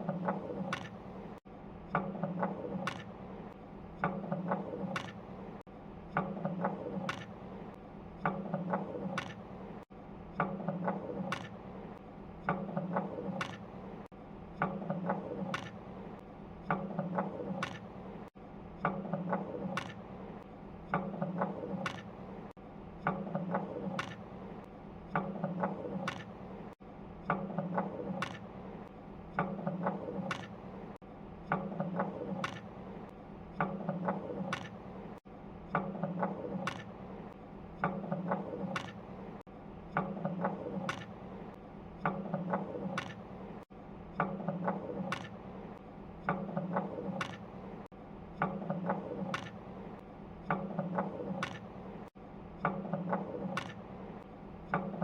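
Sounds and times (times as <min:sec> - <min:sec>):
mechanism clicking and whirring: 0:00.0 - 0:55.0.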